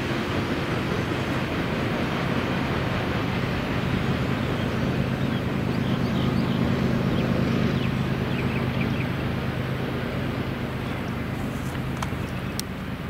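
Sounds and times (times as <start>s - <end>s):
diesel locomotive engine rumbling: 0.0s - 13.0s
train rolling along track: 0.0s - 13.0s.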